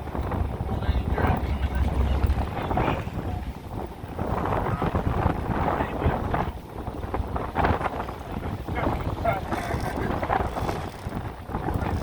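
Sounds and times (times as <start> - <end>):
boat and water noise: 0.0 - 12.0
wind buffeting the microphone: 0.0 - 12.0.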